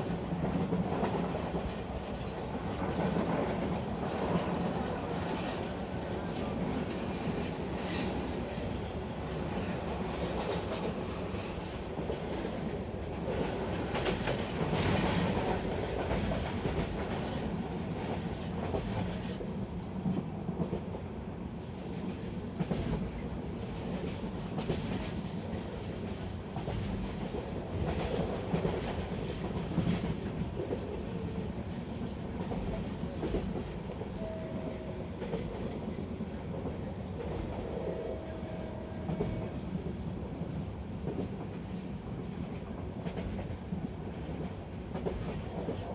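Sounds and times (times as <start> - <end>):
train rolling rumble: 0.0 - 45.9.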